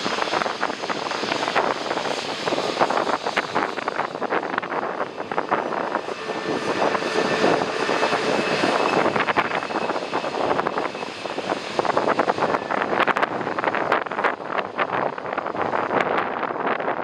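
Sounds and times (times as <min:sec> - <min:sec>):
jet airliner engines rushing: 0:00.0 - 0:17.0
wind buffeting microphone: 0:00.0 - 0:17.0.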